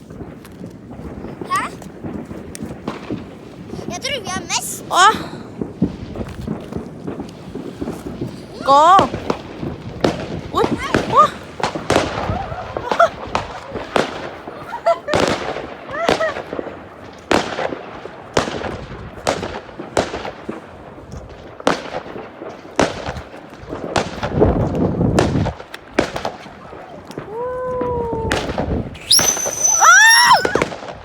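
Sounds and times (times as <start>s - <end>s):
firework bangs: 0.0s - 31.0s
firework crackling: 0.0s - 31.0s
whistling fireworks: 0.0s - 31.0s.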